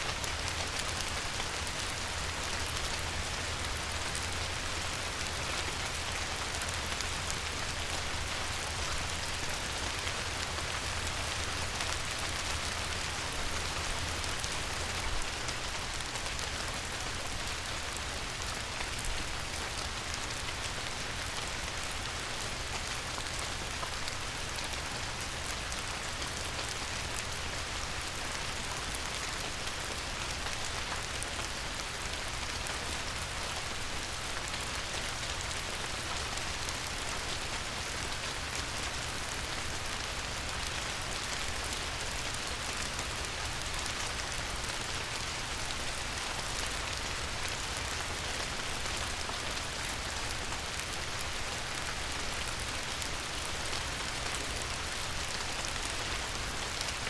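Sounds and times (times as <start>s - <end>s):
light rain on a river: 0.0s - 57.0s.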